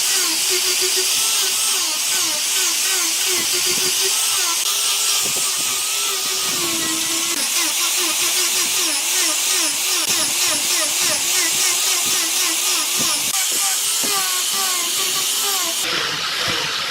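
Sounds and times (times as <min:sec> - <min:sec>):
power tool running: 0:00.0 - 0:16.9.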